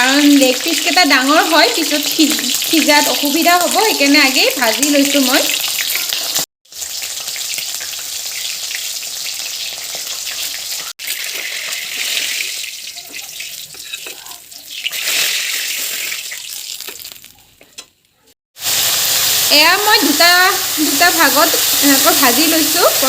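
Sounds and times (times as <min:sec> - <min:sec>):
chicken sizzling in hot oil: 0:00.0 - 0:17.5, 0:18.6 - 0:23.0.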